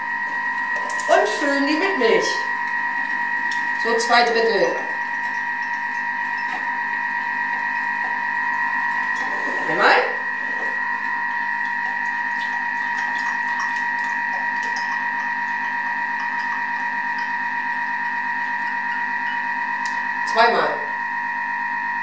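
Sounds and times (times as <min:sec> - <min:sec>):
kitchen mixer motor humming: 0:00.0 - 0:21.3.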